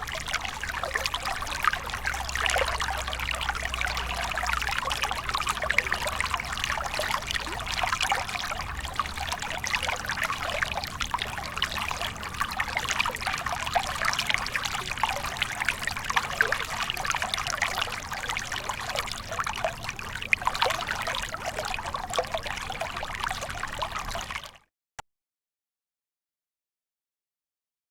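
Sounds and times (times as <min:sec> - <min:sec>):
stream trickling over stones: 0:00.0 - 0:24.6.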